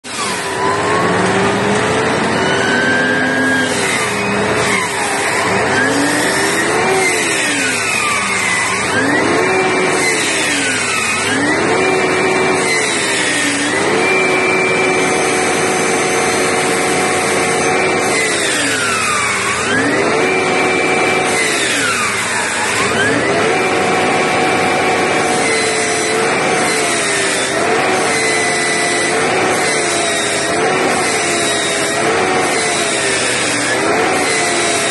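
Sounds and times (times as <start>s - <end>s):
bus drivetrain with high whine: 0.0s - 34.9s.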